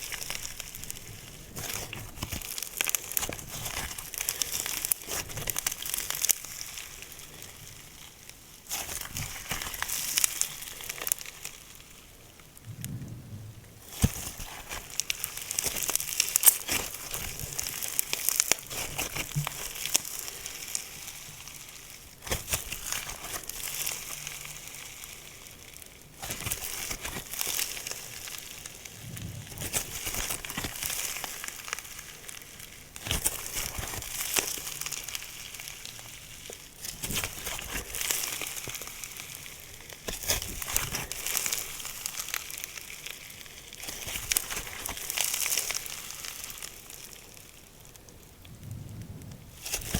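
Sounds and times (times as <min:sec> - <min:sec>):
slime crackling and popping: 0:00.0 - 0:49.9.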